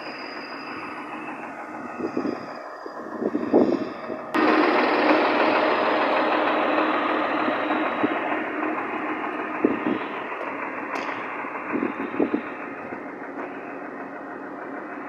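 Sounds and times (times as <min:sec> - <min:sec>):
machinery noise: 0:00.0 - 0:15.0.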